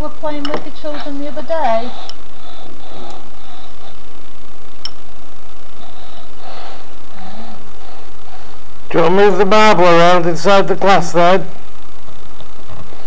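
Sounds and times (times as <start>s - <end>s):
faint muffled sounds: 0.0s - 13.0s
room tone hum and hiss: 0.0s - 13.0s.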